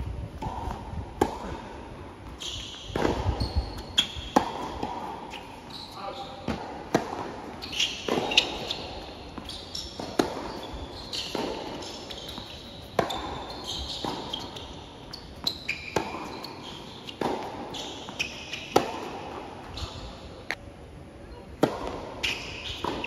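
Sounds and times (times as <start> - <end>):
racket hitting tennis ball: 0.4 - 5.6, 6.4 - 14.8, 15.4 - 20.0, 21.6 - 23.0
tennis ball bouncing: 0.4 - 5.6, 6.4 - 19.9, 21.6 - 23.0
sneakers squeaking on court: 0.4 - 20.5, 22.2 - 23.0.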